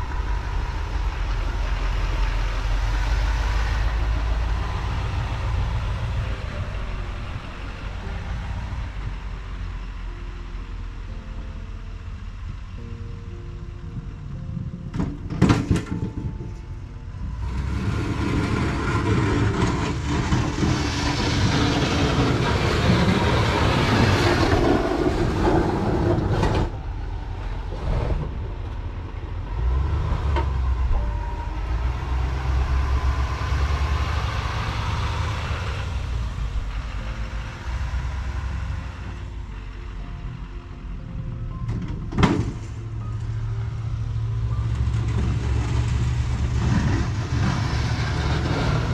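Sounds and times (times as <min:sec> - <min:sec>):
vehicle engine rumbling: 0:00.0 - 0:48.9.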